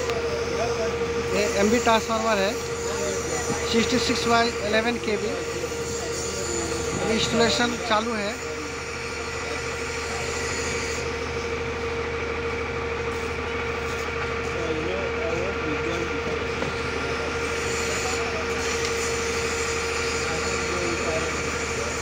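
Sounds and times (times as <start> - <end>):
crane engine whining: 0.0 - 22.0
faint workers' voices: 0.0 - 22.0.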